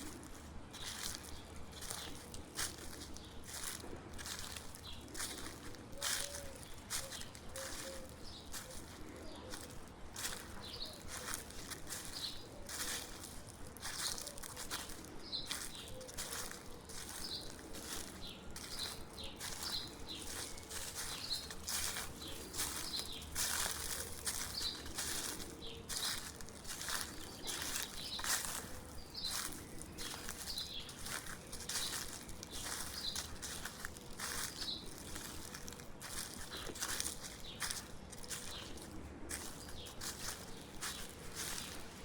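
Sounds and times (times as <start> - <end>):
footsteps crunching dry leaves: 0.0 - 42.0.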